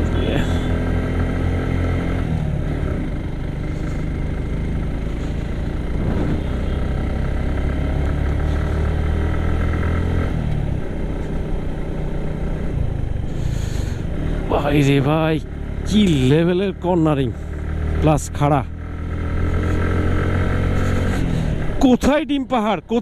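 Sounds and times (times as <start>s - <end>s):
motorcycle engine pulling uphill: 0.0s - 23.0s.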